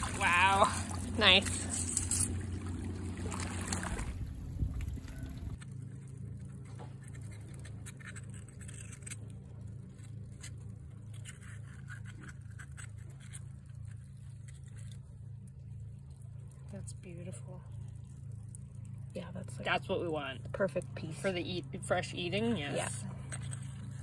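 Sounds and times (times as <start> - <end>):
water and wind noise: 0.0 - 8.6, 9.2 - 24.0
steady low hum: 0.0 - 24.0.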